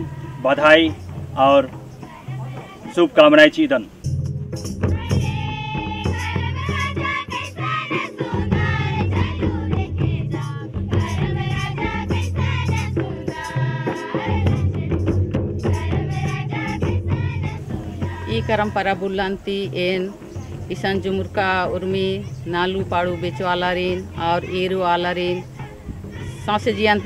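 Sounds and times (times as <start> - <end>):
rattling percussion: 0.0 - 3.0, 4.0 - 27.0
group of voices singing: 0.0 - 3.6, 4.9 - 20.2, 20.8 - 27.0
steady drum beat: 0.0 - 27.0.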